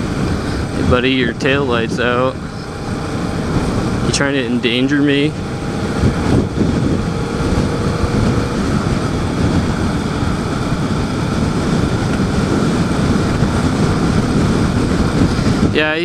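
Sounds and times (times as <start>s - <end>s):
motorcycle engine running: 0.0s - 16.0s
wind on microphone: 0.0s - 16.0s.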